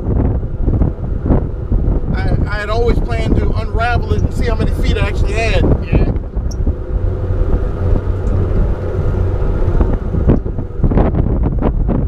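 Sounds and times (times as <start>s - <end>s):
boat motor droning: 0.0s - 12.0s
wind buffeting microphone: 0.0s - 12.0s.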